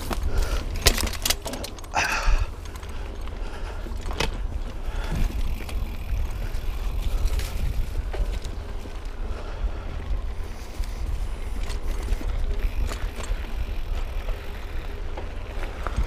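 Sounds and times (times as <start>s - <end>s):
bike knocking and rattling: 0.0s - 16.0s.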